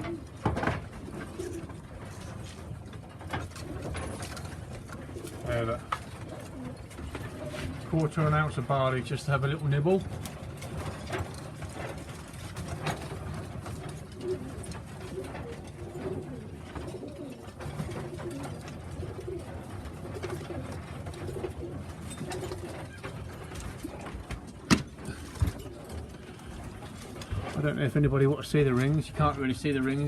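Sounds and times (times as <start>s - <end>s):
pigeons cooing: 0.0s - 29.8s.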